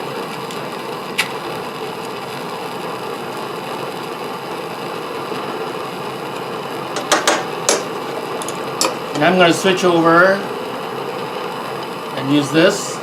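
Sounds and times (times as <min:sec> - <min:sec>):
torch burning with a hiss: 0:00.0 - 0:13.0.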